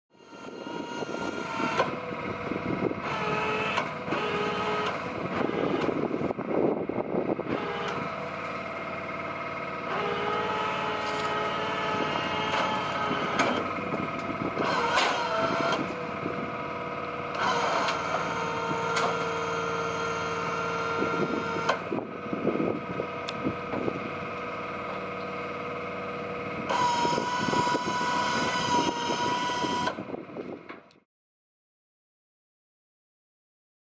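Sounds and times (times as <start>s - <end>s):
crane hoist whine: 0.1s - 31.0s
truck engine running: 0.2s - 31.0s.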